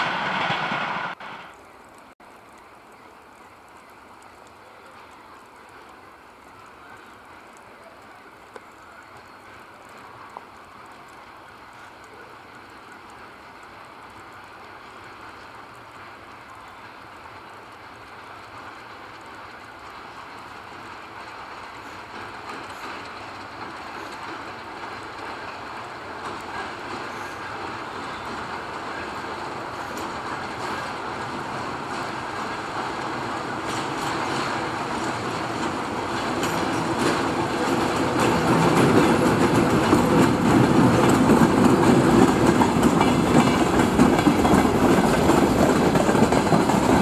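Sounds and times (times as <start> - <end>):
diesel locomotive engine: 0.0 - 47.0
train wheels on rails: 0.0 - 47.0.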